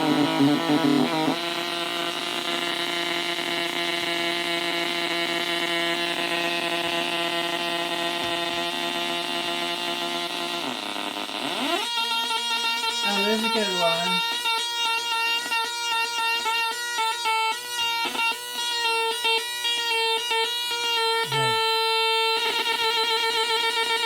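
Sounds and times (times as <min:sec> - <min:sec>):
buzzy electronic drone: 0:00.0 - 0:24.0.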